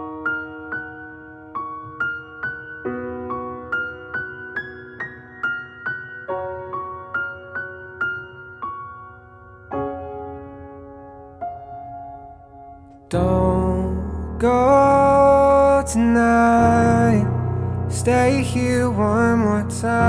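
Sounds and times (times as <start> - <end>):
slow gentle piano melody: 0.0 - 20.0.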